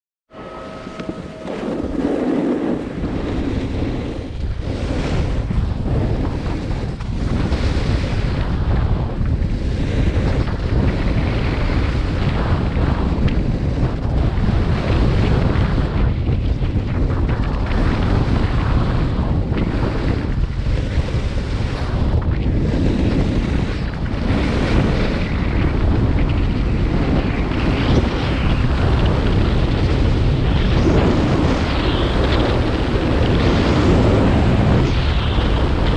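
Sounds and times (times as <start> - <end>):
wind buffeting microphone: 0.3 - 35.9.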